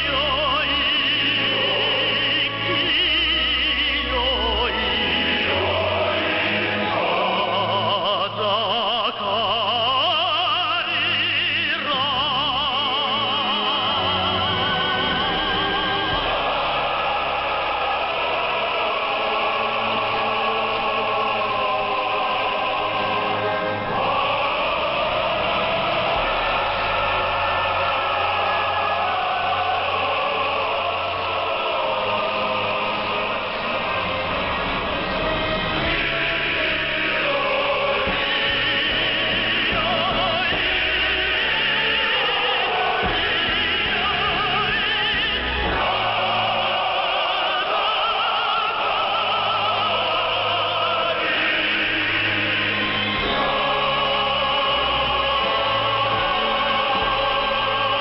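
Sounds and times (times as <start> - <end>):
operatic singing over shortwave radio: 0.0 - 58.0.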